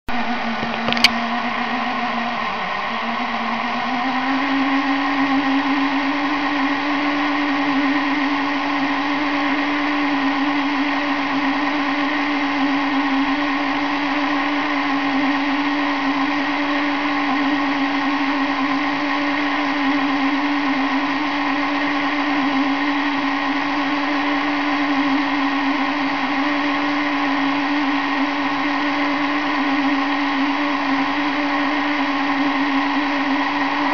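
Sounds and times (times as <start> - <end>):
small electric motor whirring: 0.1 - 33.9.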